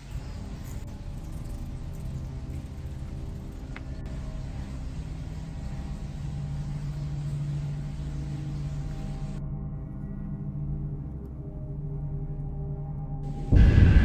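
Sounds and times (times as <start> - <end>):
droning music with rumbling bass: 0.0 - 14.0.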